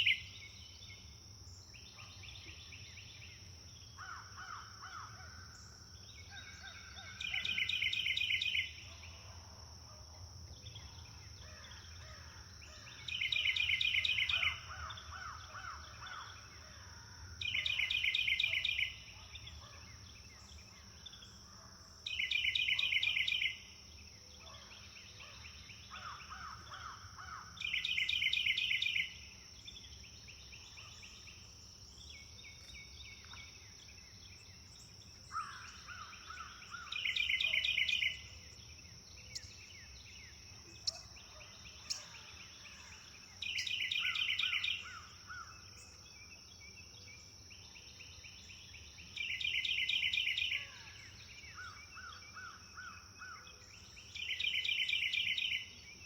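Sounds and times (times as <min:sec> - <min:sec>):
birds soft trills and chirps: 0:00.0 - 0:56.0.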